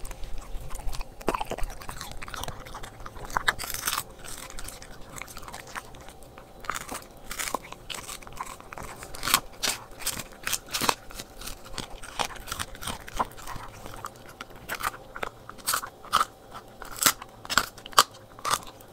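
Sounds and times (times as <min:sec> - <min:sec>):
dog crunching on a bone: 0:00.0 - 0:18.9.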